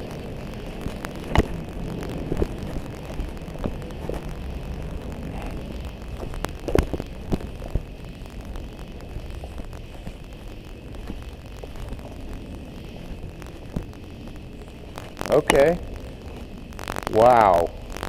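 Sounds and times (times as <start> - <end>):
footsteps: 0.0 - 17.1
low rumble: 0.0 - 18.0.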